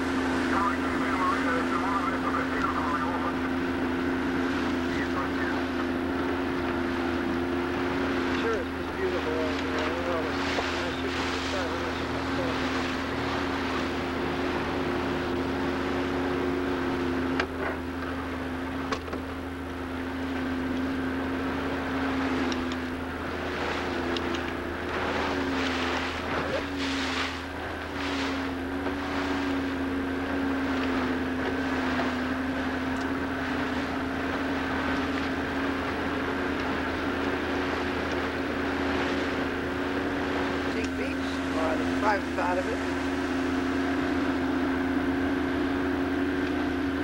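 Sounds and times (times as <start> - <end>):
motorboat engine running: 0.0 - 47.0
water splashing: 0.0 - 47.0.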